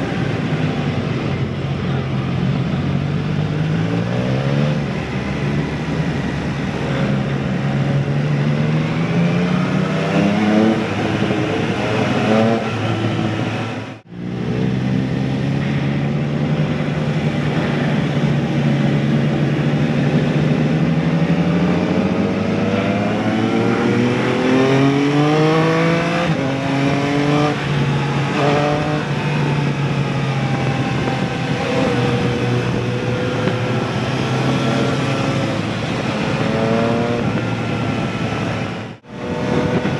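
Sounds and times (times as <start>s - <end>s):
motorcycle engine accelerating: 0.0s - 39.9s
wind noise on microphone: 0.0s - 39.9s.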